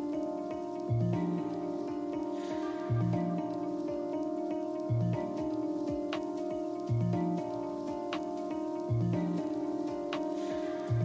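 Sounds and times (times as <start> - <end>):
slow ambient music: 0.0 - 11.0.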